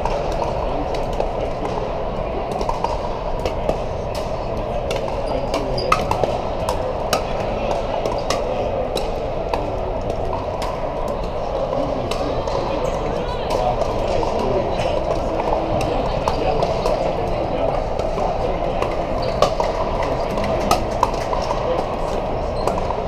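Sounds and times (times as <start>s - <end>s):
paddles striking plastic balls: 0.0s - 12.7s, 13.5s - 23.0s
background din of play: 0.0s - 23.0s.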